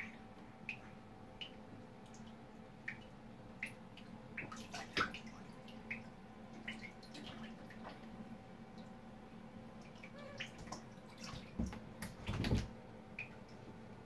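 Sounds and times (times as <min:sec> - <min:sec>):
water dripping into bathtub: 0:00.0 - 0:09.1, 0:09.7 - 0:13.8
faint steady hum: 0:00.0 - 0:14.0.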